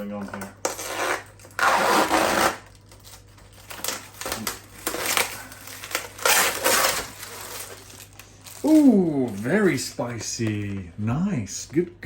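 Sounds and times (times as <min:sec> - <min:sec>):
plastic packaging crinkling and tearing: 0:00.7 - 0:10.9.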